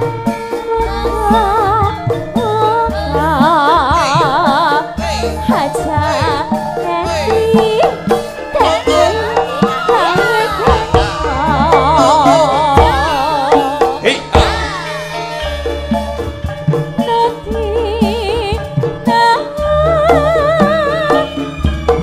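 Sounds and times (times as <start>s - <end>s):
woman singing with vibrato: 0.0s - 15.8s, 16.9s - 21.7s
drum strokes: 0.0s - 22.0s
gamelan ensemble: 0.0s - 22.0s.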